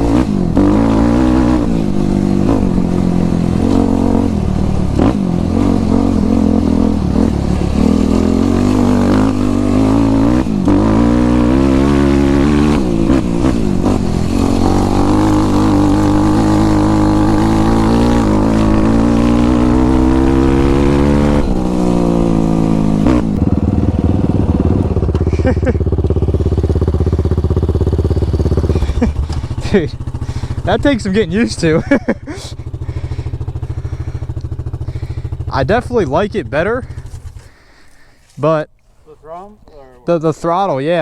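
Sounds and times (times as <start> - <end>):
quad engine revving: 0.0 - 37.7.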